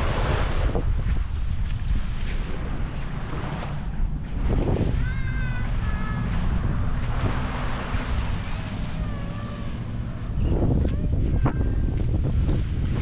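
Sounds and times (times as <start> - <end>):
surf washing on beach: 0.0 - 13.0
wind buffeting microphone: 0.0 - 13.0.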